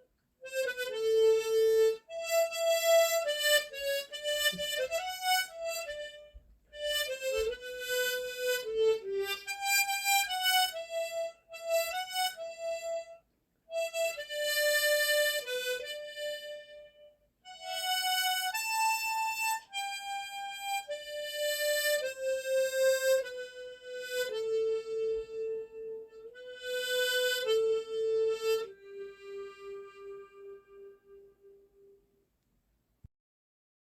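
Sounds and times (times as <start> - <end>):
tremolo harmonica melody: 0.0 - 32.1.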